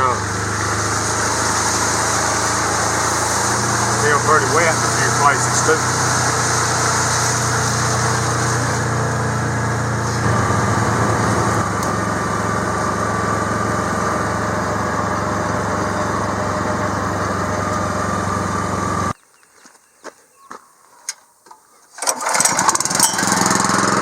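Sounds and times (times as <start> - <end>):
engine running steadily: 0.0 - 19.2, 22.1 - 24.0.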